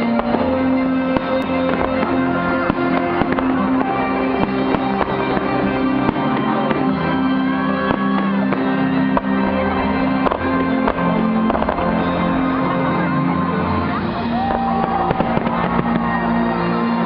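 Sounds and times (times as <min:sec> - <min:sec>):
fireworks bursting and crackling: 0:00.0 - 0:17.0
music with sustained notes: 0:00.0 - 0:17.0.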